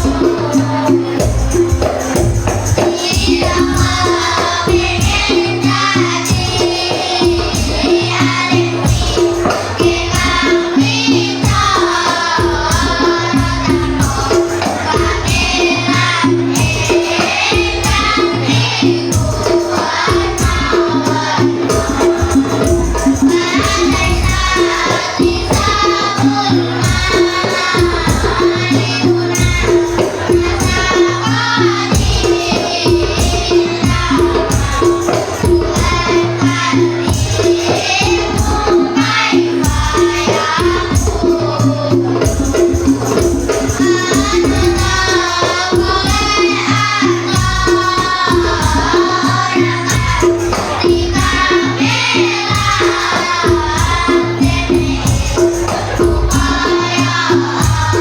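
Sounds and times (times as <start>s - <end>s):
children chanting in unison: 0.0s - 58.0s.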